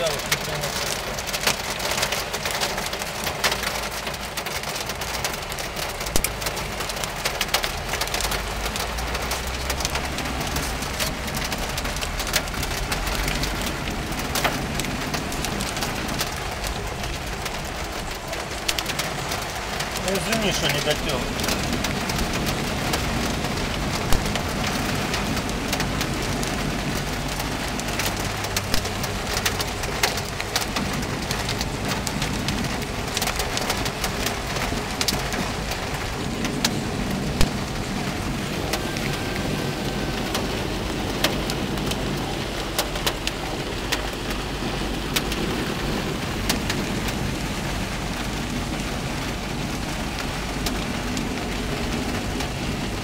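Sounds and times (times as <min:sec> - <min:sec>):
car driving hum: 0:00.0 - 0:53.0
heavy rain on car roof: 0:00.0 - 0:53.0.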